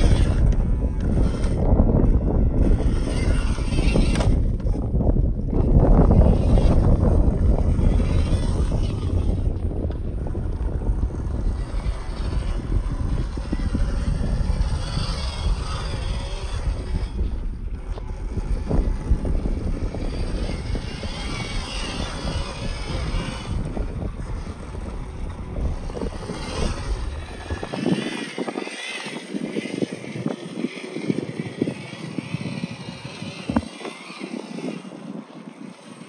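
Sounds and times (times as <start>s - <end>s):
small electric motor whine: 0.0s - 36.0s
wind buffeting microphone: 0.0s - 36.0s.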